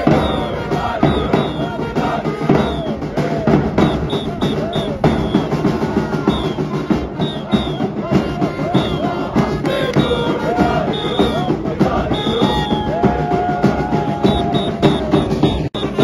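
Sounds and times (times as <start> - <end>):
music with driving drum beat: 0.0 - 16.0.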